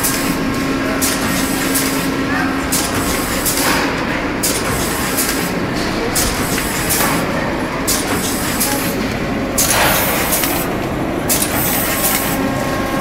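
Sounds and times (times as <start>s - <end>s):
packing machine mechanical din: 0.0s - 13.0s.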